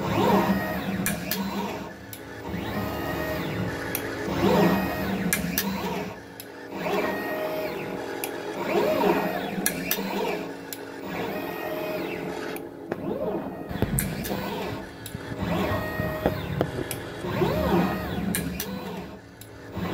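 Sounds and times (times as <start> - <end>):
steady hum: 0.0 - 19.9
stepper motors whining: 0.0 - 19.9.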